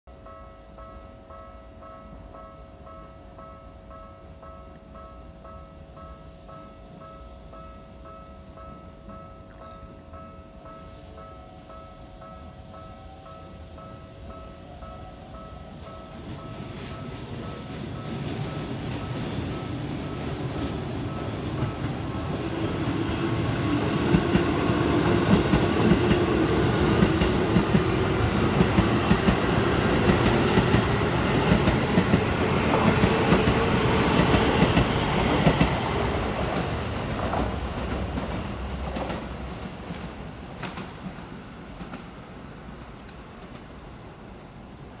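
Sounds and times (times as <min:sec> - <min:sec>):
electric train rumbling past: 0:00.1 - 0:45.0.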